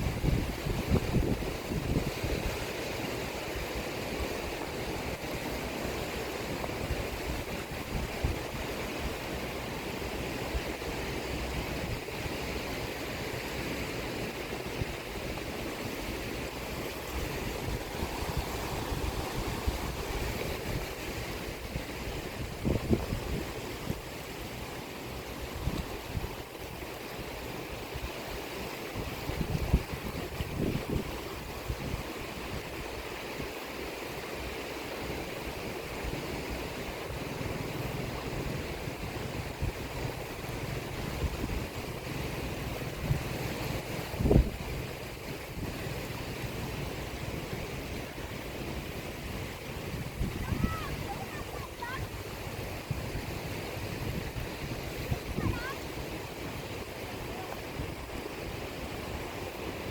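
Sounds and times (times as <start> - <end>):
ocean surf: 0.0 - 59.9
rain: 0.0 - 59.9
sea waves washing on shore: 0.0 - 59.9
wind rumbling on microphone: 0.0 - 59.9.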